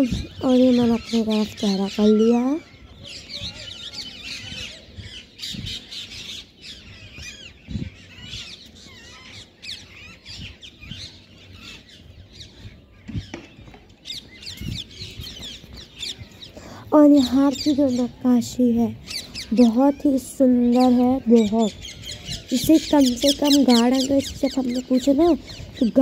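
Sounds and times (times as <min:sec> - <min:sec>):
birds chirping and squawking: 0:00.0 - 0:26.0.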